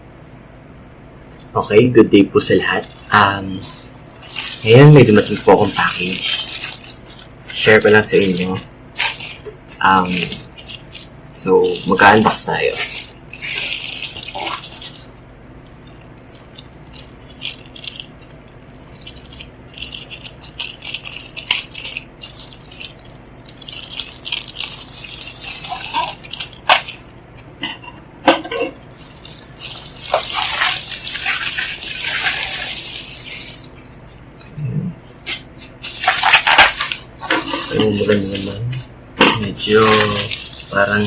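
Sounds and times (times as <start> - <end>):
plastic packaging crinkling: 2.2 - 27.6, 28.6 - 34.4, 35.0 - 41.0.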